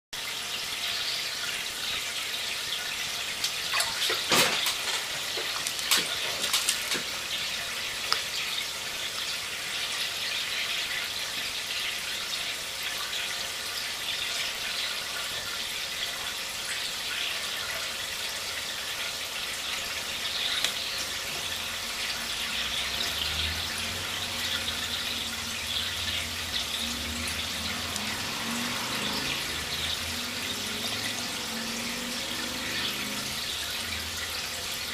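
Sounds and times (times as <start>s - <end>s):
water trickling and splashing: 0.2s - 34.9s.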